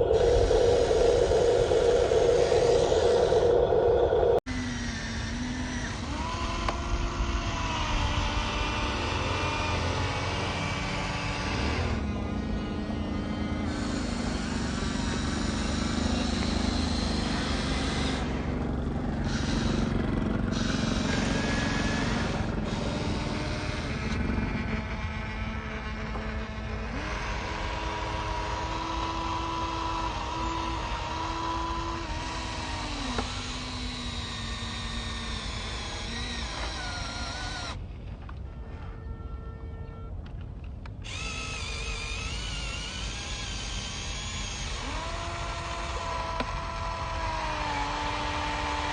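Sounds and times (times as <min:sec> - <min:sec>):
small electric motors whining: 0:00.0 - 0:48.9.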